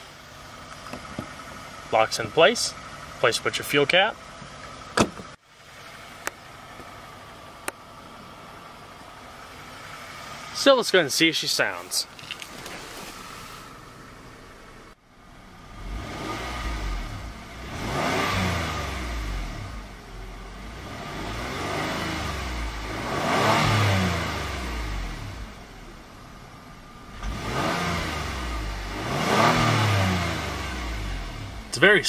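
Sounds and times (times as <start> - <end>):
car engine revving: 0.0 - 11.0, 11.6 - 32.0.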